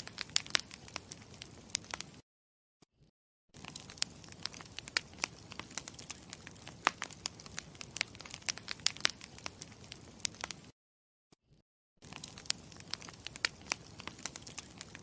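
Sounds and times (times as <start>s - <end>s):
campfire crackling: 0.0s - 2.2s, 3.6s - 10.7s, 12.0s - 15.0s.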